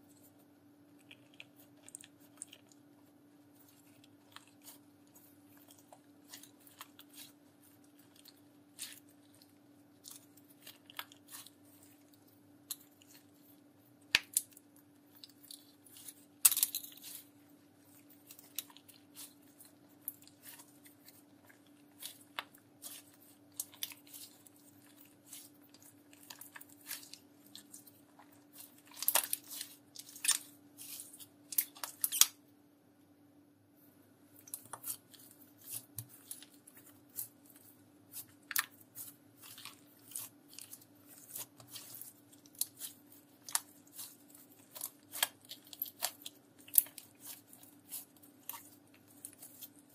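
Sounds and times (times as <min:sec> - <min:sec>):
faint steady hum: 0:00.0 - 0:49.9
hands squeezing sticky slime: 0:00.9 - 0:32.4, 0:34.4 - 0:49.9.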